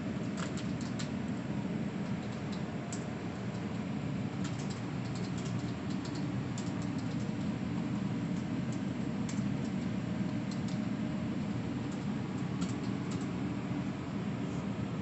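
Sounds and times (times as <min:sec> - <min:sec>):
low rumble of office noise: 0:00.0 - 0:15.0.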